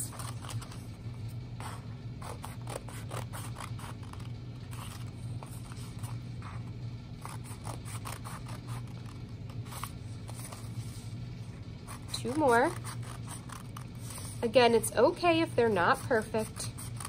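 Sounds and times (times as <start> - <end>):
scissors cutting paper: 0.0 - 0.9, 1.6 - 10.8, 11.8 - 14.4, 15.9 - 17.0.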